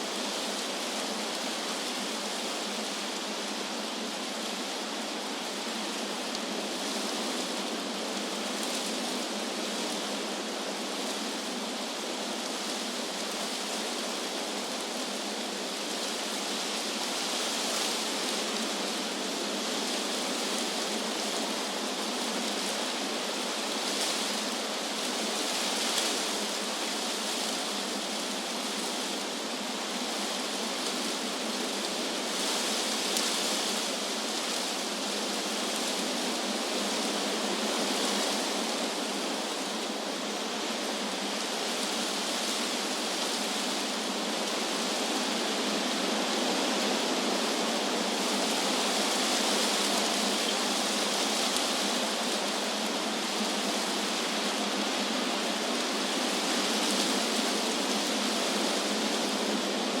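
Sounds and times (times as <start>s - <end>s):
wind rustling leaves: 0.0s - 60.0s.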